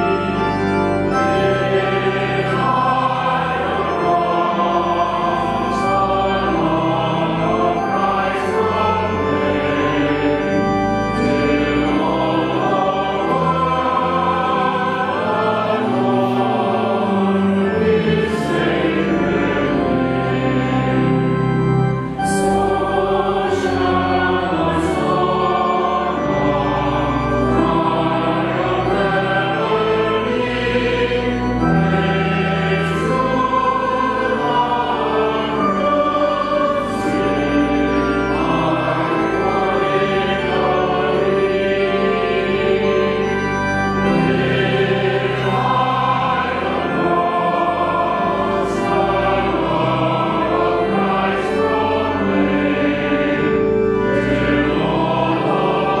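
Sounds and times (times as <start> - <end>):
choir singing a hymn: 0.0 - 56.0
held low accompaniment notes: 0.0 - 56.0.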